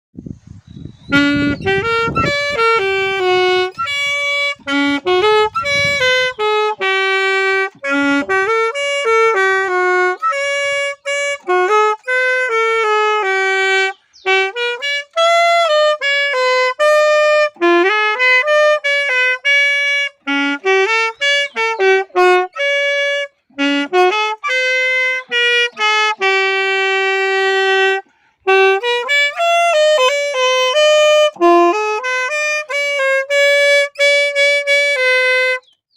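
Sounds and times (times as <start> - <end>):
saxophone melody: 0.9 - 35.9.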